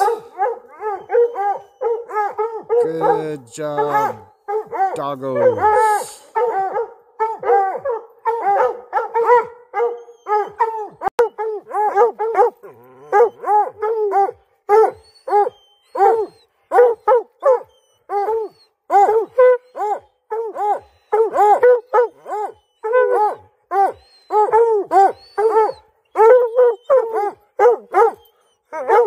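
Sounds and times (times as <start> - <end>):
hounds barking: 0.0 - 29.0.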